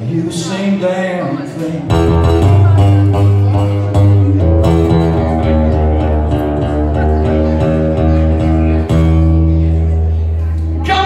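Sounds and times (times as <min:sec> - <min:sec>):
acoustic guitar: 0:00.0 - 0:11.0
plucked double bass: 0:01.9 - 0:11.0.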